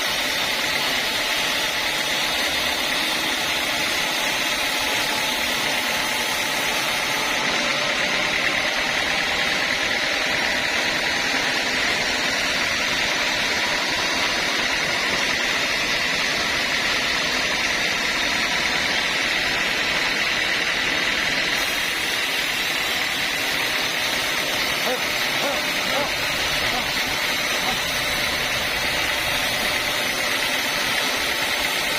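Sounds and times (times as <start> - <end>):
high machine whine: 0.0 - 31.9
sawmill machinery running: 0.0 - 31.9.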